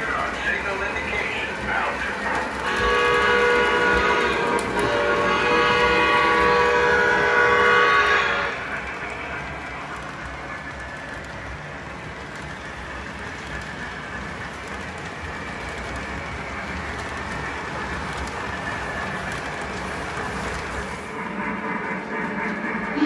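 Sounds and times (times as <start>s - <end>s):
model train wheels rumbling: 0.0s - 23.0s.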